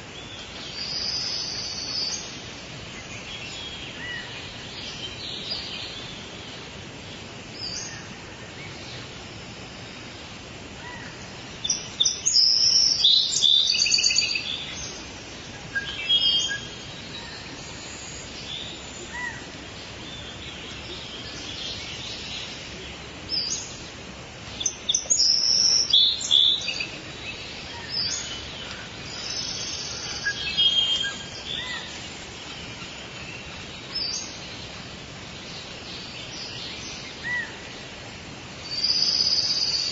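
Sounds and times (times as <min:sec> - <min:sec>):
birds chirping: 0:00.0 - 0:39.9
forest ambience hiss: 0:00.0 - 0:39.9.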